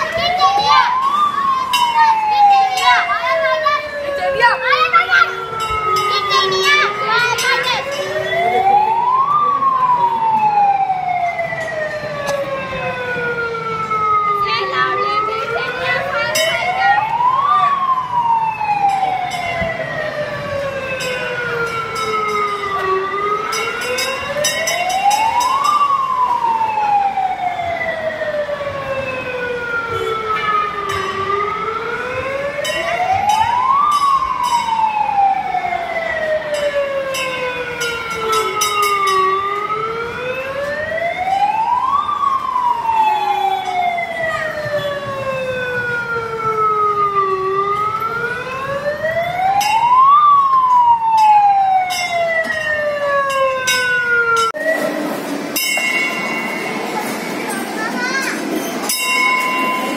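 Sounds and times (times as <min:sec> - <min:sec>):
fire truck siren wailing: 0:00.0 - 0:59.9.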